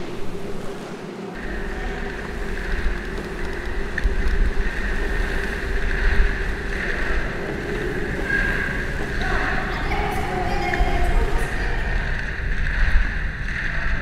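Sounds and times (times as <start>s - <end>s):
constant hum: 0.0s - 14.0s
low rumble of moving air: 0.0s - 14.0s.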